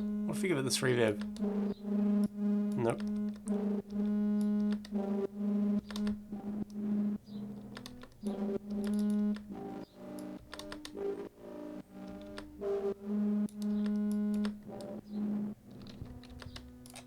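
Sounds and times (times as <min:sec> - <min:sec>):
synthesized resonant bass notes: 0:00.0 - 0:16.6
sharp clicks: 0:00.0 - 0:17.0.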